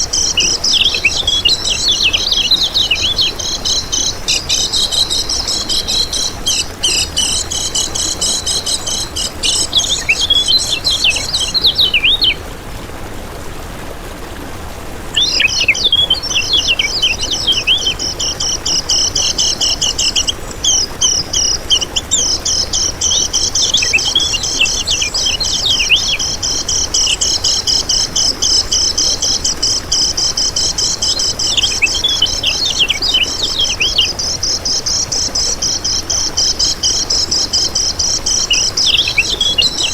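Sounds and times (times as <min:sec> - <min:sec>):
bird twittering song: 0:00.0 - 0:12.5, 0:15.1 - 0:39.9.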